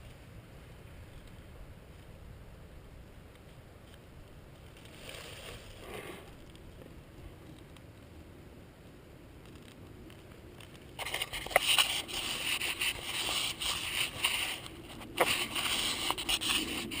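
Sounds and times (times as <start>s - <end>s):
rustling of brush and dry leaves: 0.0s - 17.0s.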